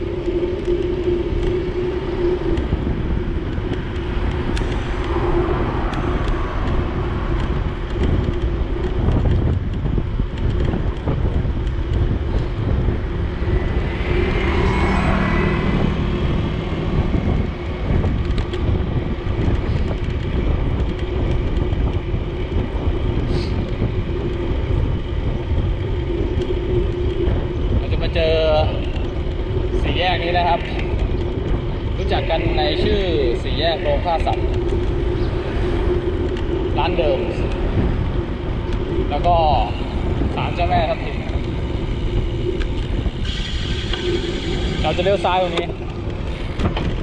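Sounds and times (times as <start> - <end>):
road noise: 0.0 - 47.0
wind on microphone: 0.0 - 47.0
motor vehicle passing: 0.9 - 47.0.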